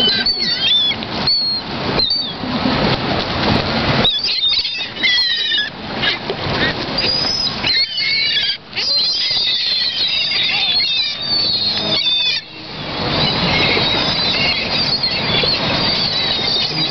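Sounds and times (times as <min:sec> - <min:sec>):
gulls squealing: 0:00.0 - 0:02.5, 0:04.0 - 0:16.9.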